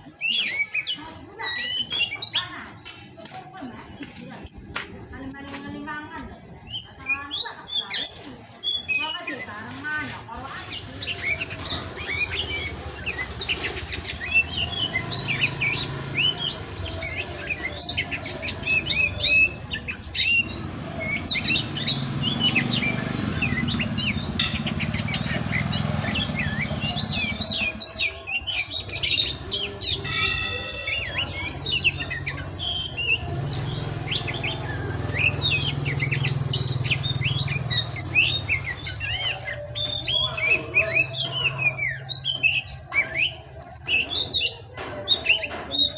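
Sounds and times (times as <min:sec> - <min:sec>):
songbird singing chirps and whistles: 0:00.0 - 0:45.9.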